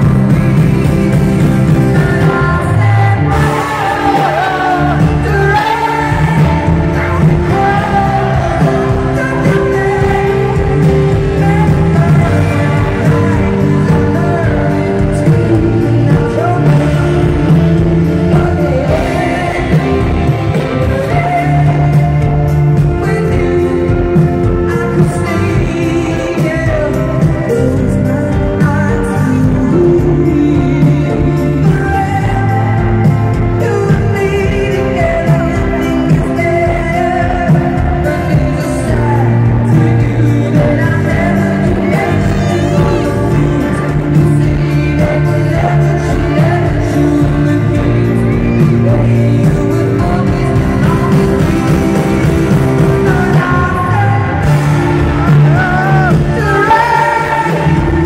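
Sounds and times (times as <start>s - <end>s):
band playing: 0.0s - 58.0s
singer singing: 0.0s - 58.0s.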